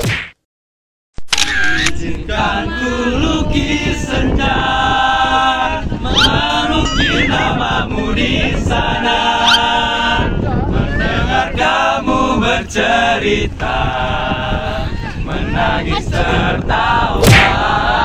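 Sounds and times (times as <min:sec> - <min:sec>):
young voices singing pop song: 0:01.9 - 0:18.0.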